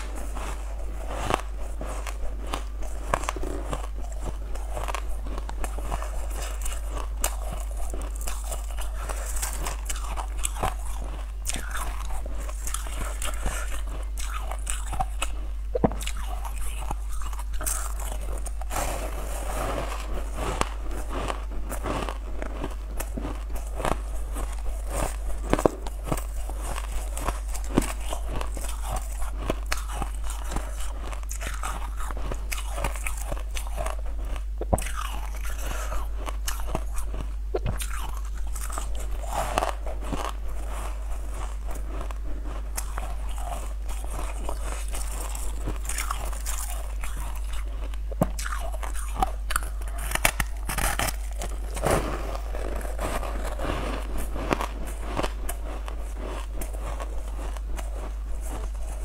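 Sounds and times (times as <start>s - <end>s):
person chewing crunchy food: 0.0s - 59.0s
steady low hum: 0.0s - 59.0s.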